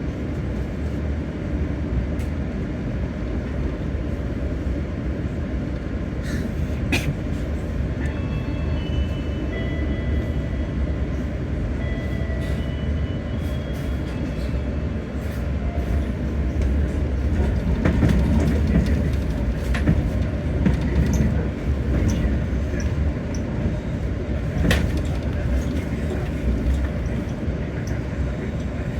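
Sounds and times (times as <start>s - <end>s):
train rumbling on rails: 0.0s - 28.9s.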